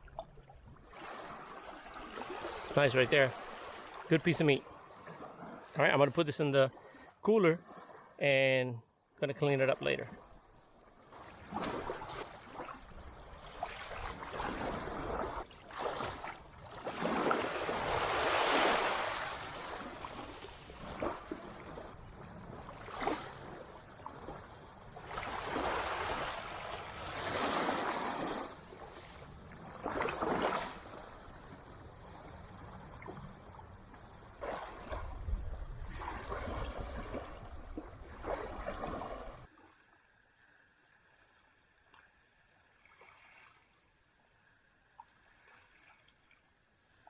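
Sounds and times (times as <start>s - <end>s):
water sloshing and splashing: 0.0s - 8.2s, 9.8s - 44.2s, 44.8s - 47.0s.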